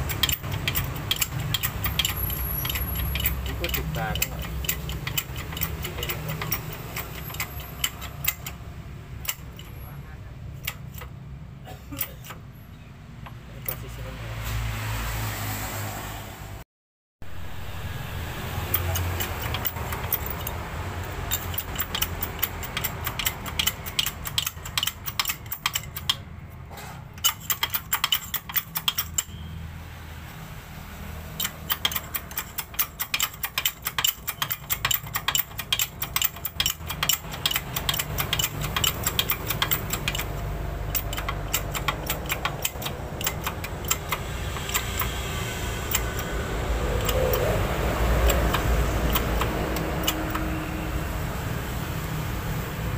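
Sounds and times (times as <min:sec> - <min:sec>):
metal parts clicking and ticking: 0:00.0 - 0:11.3, 0:11.9 - 0:12.5, 0:13.2 - 0:14.0, 0:18.6 - 0:29.5, 0:31.4 - 0:52.9.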